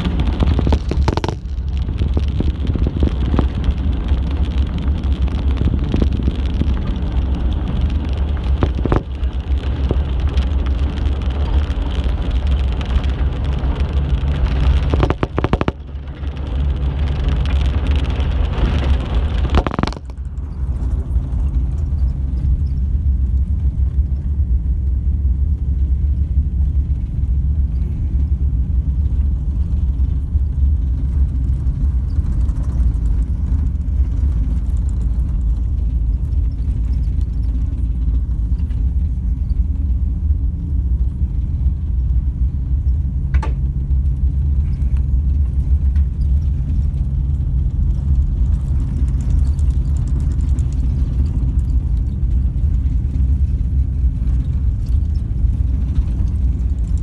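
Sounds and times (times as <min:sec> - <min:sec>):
bus driving rumble: 0:00.0 - 0:57.0.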